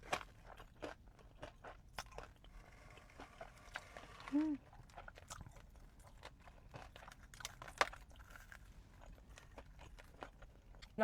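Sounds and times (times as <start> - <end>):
crisp chewing crunches: 0.0 - 11.0.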